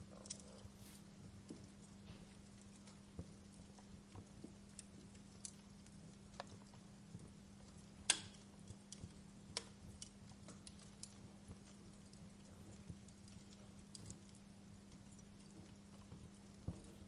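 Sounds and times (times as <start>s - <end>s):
faint steady hum: 0.0s - 17.0s
wood fire crackling: 0.0s - 17.0s.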